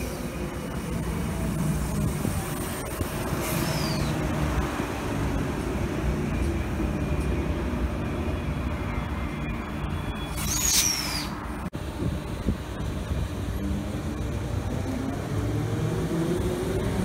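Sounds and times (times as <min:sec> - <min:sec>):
faint train whine: 0:00.0 - 0:16.9.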